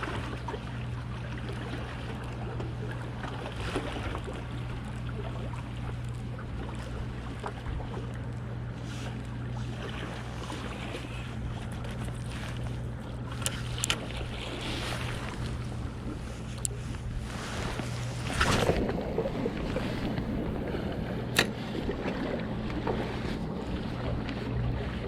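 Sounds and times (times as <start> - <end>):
low motor hum: 0.0 - 25.0
water noise: 0.0 - 25.0
wind: 0.0 - 25.0.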